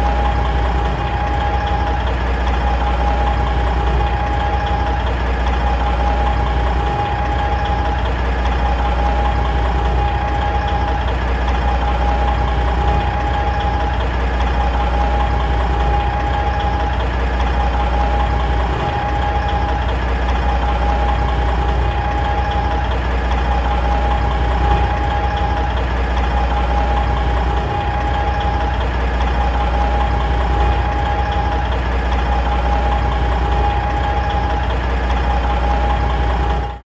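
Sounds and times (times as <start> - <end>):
constant whine: 0.0 - 36.8
truck diesel engine idling: 0.0 - 36.9.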